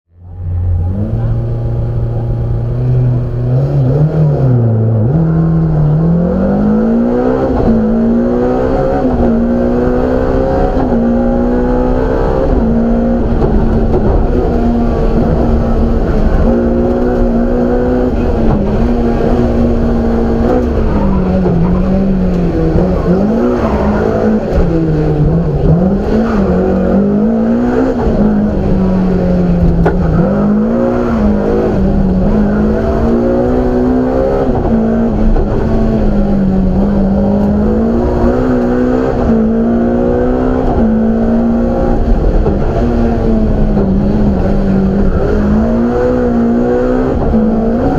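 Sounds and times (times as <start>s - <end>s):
rally car engine revving: 0.1s - 47.9s.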